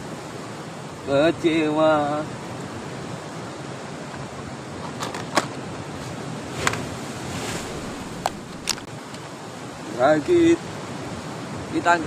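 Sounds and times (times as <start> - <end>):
sea surf washing: 0.0 - 12.0.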